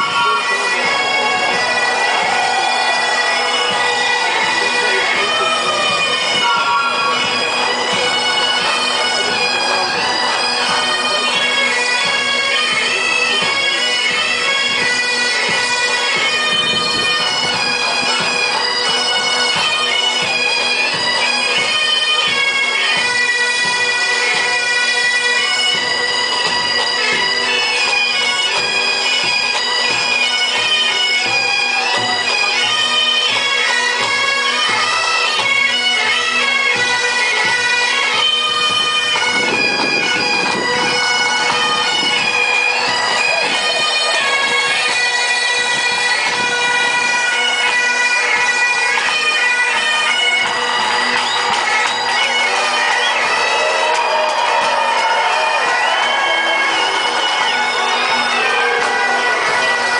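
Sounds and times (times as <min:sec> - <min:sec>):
bagpipe band playing: 0:00.0 - 0:59.9.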